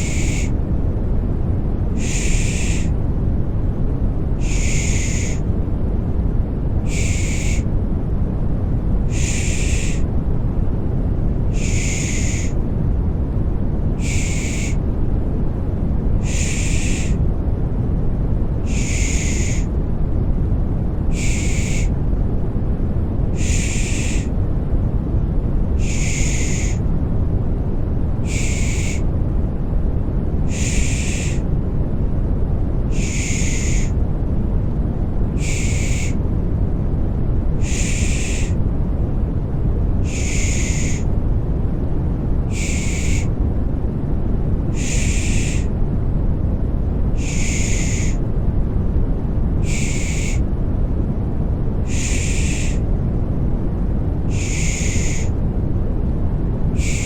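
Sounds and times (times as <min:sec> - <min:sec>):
low rumbling white noise: 0:00.0 - 0:57.0.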